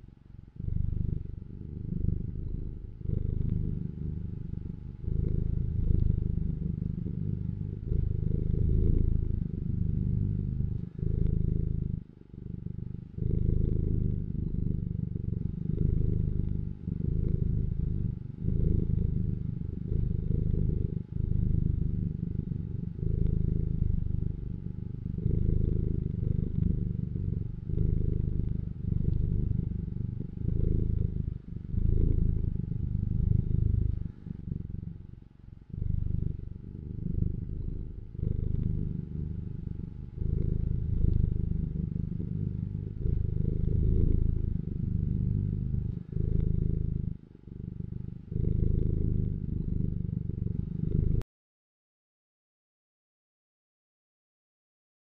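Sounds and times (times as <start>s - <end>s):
cat purring: 0.0s - 51.2s.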